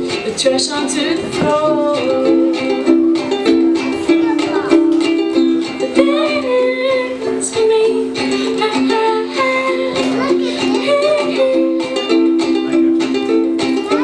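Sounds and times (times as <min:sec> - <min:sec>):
ukulele strumming chords: 0:00.0 - 0:14.0.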